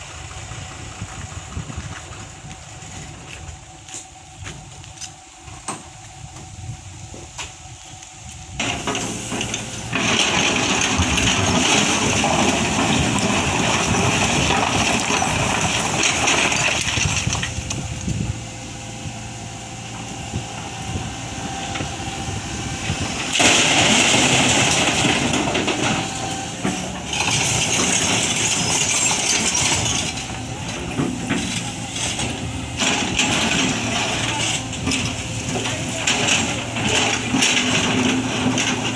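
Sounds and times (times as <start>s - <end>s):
excavator diesel engine under load: 0.0s - 7.3s, 8.4s - 38.9s.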